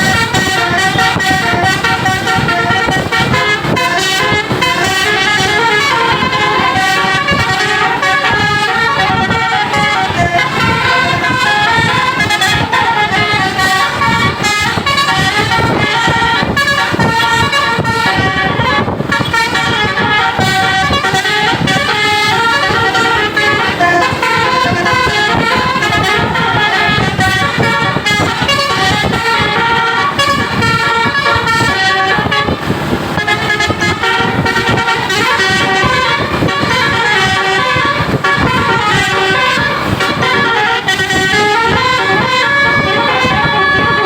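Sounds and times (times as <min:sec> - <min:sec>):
multi-tone trumpet horns tune: 0:00.0 - 0:44.0.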